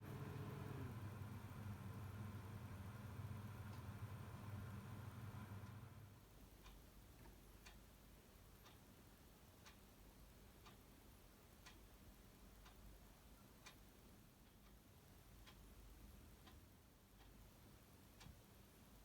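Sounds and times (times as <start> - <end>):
faint regular ticking: 0.1 - 19.0.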